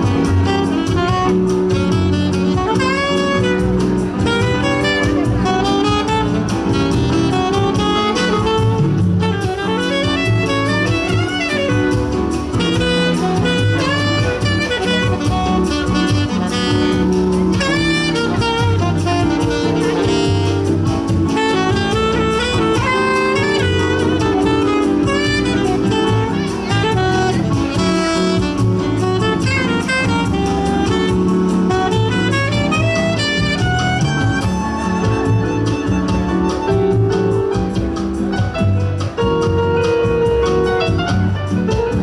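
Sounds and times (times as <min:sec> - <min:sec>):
bass accompaniment: 0:00.0 - 0:42.0
saxophone melody: 0:00.0 - 0:42.0.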